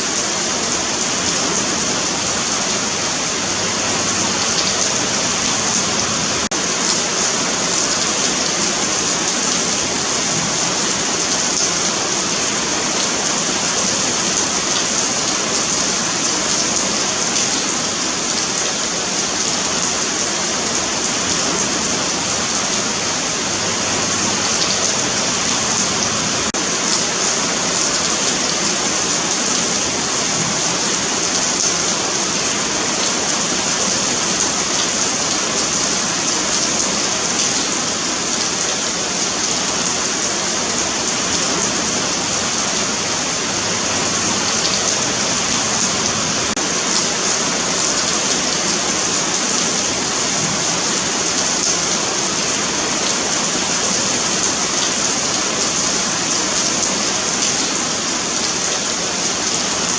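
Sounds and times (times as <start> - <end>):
rain on pavement: 0.0 - 59.9.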